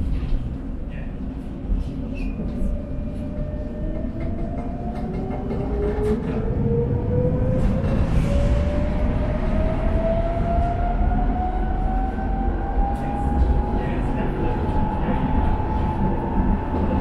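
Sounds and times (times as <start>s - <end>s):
wheels rumbling on rails: 0.0s - 17.0s
tram motor whine: 2.4s - 17.0s.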